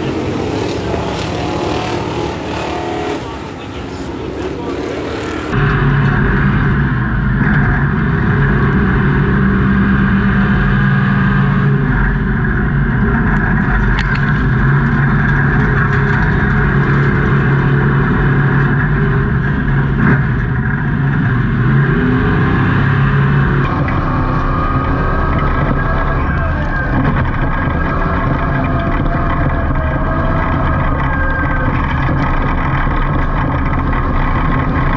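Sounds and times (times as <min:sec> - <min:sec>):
race vehicle engine revving: 0:00.0 - 0:34.9.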